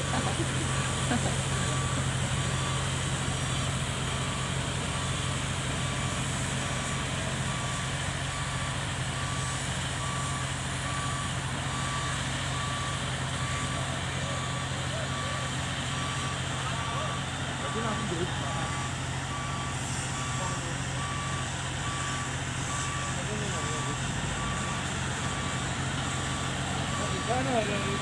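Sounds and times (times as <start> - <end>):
excavator diesel engine running: 0.0 - 28.0
travel alarm beeping: 0.0 - 28.0.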